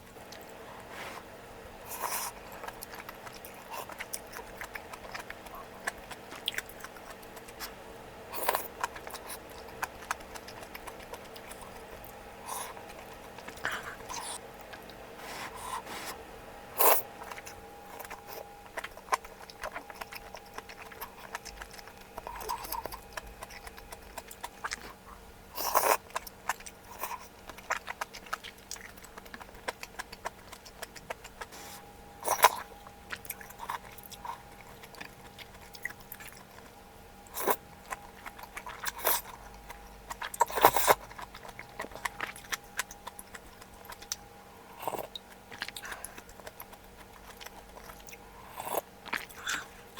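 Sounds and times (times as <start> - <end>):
faint steady hum: 0.0 - 49.9
person chewing food: 0.0 - 49.9.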